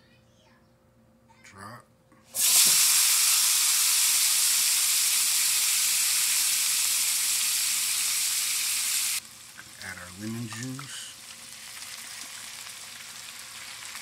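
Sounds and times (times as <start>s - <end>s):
vegetables sizzling in hot oil: 2.4s - 14.0s.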